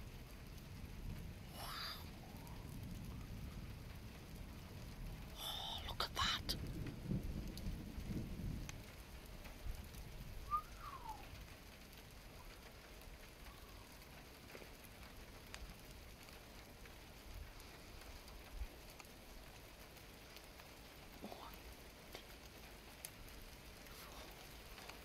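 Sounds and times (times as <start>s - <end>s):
distant thunder rumble: 0.0s - 25.0s
light rain: 0.0s - 25.0s.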